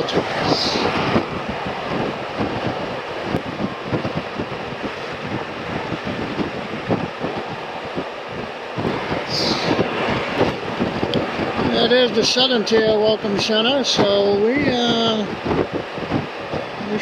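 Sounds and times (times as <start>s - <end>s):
road and motorcycle noise: 0.0s - 17.0s
wind rushing over microphone: 0.0s - 17.0s.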